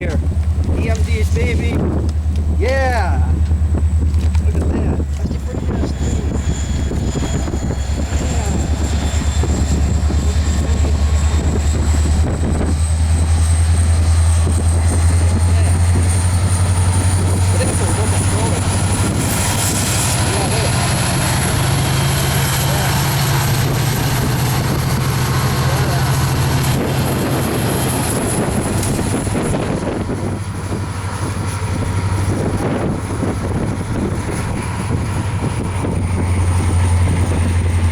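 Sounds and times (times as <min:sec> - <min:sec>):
diesel locomotive engine drone: 0:00.0 - 0:37.9.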